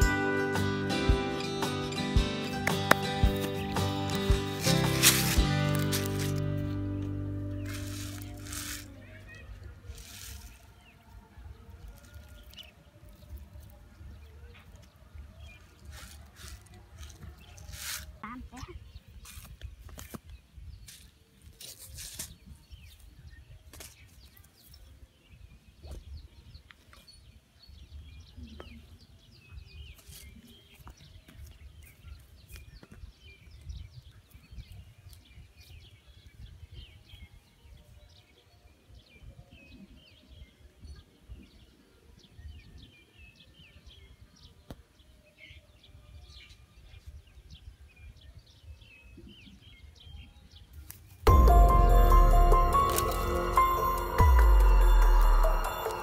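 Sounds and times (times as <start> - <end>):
small birds chirping: 1.3 - 52.1.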